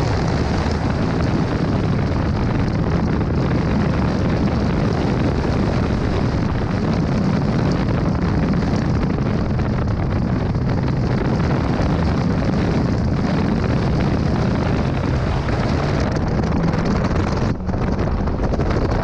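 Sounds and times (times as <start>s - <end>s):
car engine revving hard: 0.0s - 17.6s
wind buffeting microphone: 0.0s - 19.0s.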